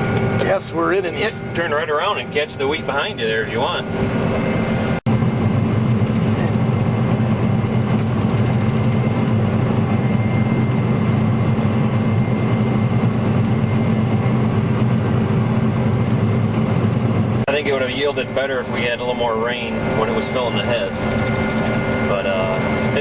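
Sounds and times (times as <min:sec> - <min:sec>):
combine harvester drone from cab: 0:00.0 - 0:23.0.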